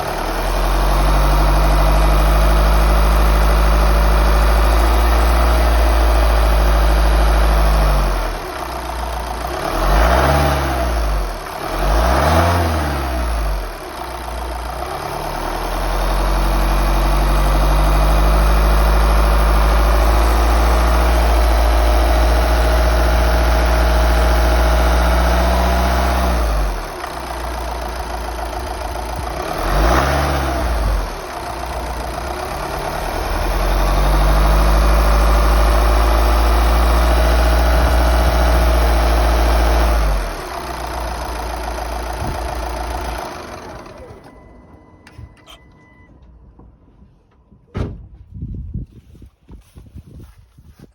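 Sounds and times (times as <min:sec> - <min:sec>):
van engine idling and revving: 0:00.0 - 0:47.7.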